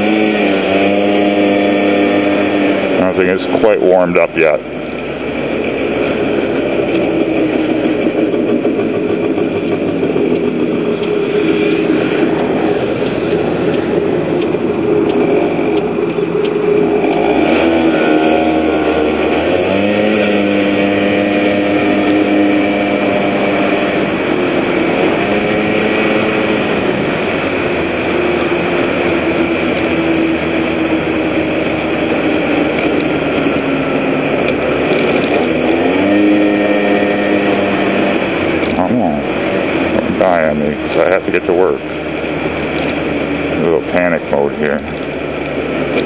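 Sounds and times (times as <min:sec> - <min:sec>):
road noise: 0:00.0 - 0:46.0
two-stroke scooter engine revving: 0:00.0 - 0:46.0
wind: 0:00.0 - 0:46.0.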